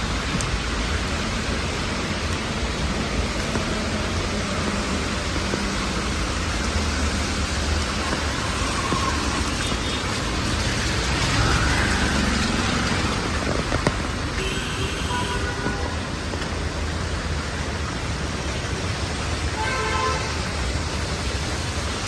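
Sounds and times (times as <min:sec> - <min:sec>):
rain hissing: 0:00.0 - 0:22.0
traffic on a wet street: 0:00.0 - 0:22.0.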